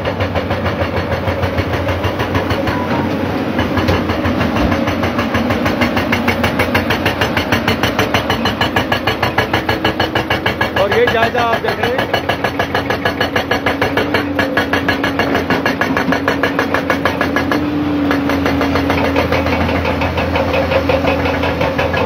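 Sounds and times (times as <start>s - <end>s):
diesel engine hum: 0.0s - 22.0s
hydraulic breaker hammering rock: 0.0s - 22.0s.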